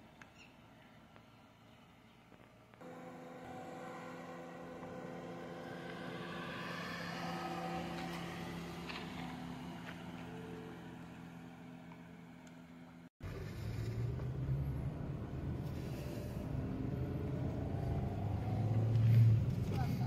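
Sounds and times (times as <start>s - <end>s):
car driving past: 2.8s - 20.0s
engine and road rumble inside car: 2.8s - 20.0s.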